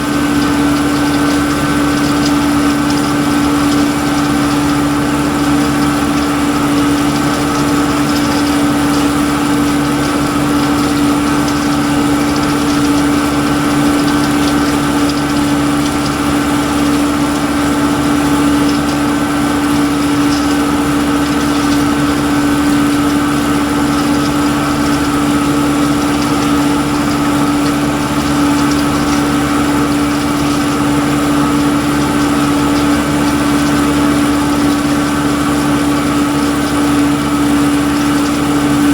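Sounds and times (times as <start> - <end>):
machinery engine droning: 0.0 - 38.9.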